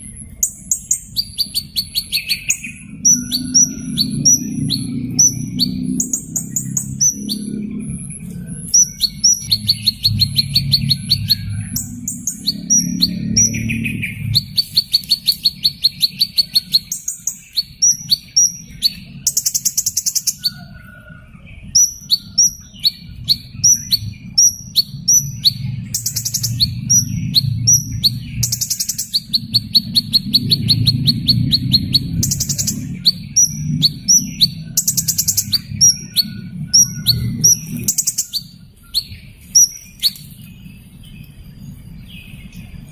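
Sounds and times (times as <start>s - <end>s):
hummingbird chirps: 0.0s - 20.8s, 21.5s - 42.9s.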